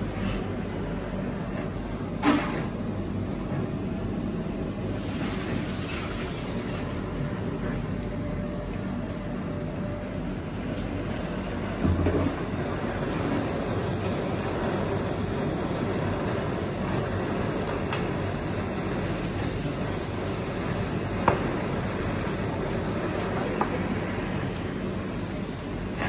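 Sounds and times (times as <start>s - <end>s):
gas burner rushing: 0.0s - 26.0s.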